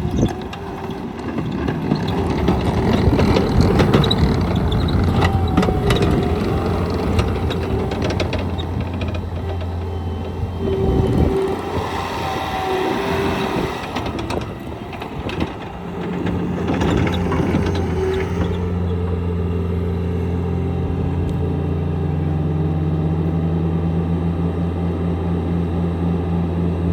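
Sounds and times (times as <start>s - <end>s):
tracks clattering: 0.0s - 21.7s
diesel engine running: 0.0s - 26.9s
engine whine: 0.0s - 26.9s.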